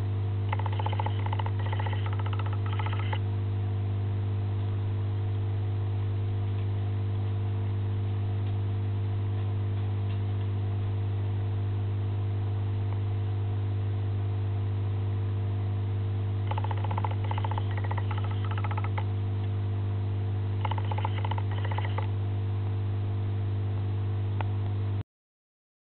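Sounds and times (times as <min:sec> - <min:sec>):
low electrical hum with hiss: 0:00.0 - 0:25.0.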